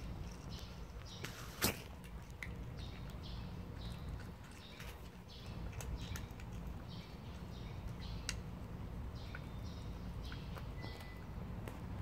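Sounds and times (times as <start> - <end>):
cat crunching dry food: 0.0 - 11.9.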